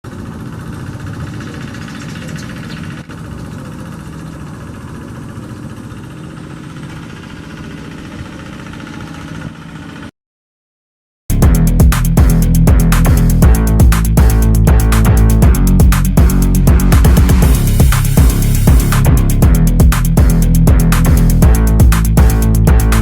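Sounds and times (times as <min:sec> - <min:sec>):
tractor engine running: 0:00.0 - 0:10.0, 0:11.4 - 0:23.0.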